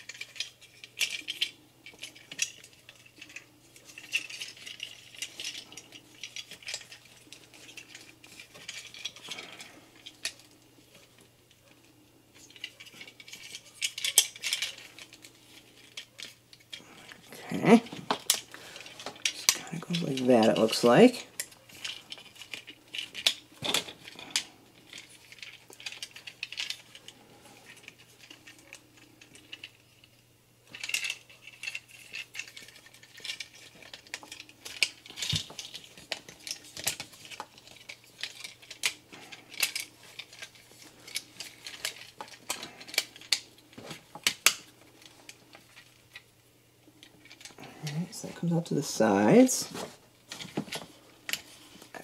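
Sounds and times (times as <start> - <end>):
plastic toy parts clicking: 0.0 - 11.8, 12.4 - 29.8, 30.7 - 46.2.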